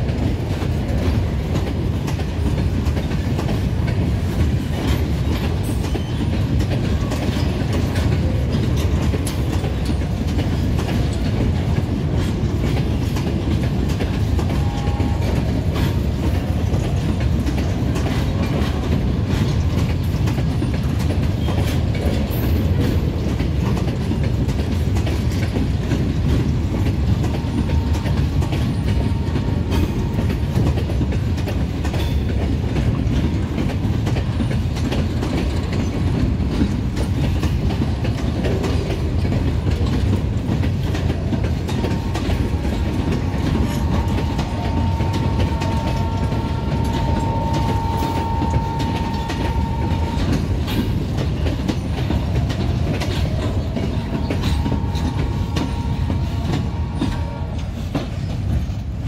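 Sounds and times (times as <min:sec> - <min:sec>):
freight wagon wheels rumbling: 0:00.0 - 0:59.0.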